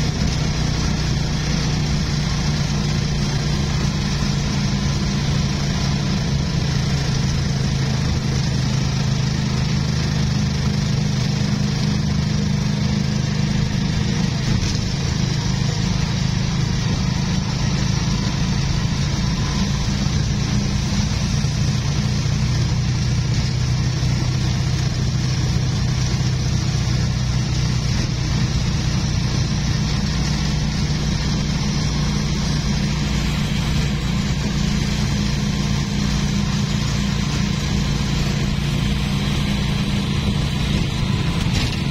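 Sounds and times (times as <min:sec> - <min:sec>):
road and wind noise: 0:00.0 - 0:41.9
vehicle engine running: 0:00.0 - 0:41.9.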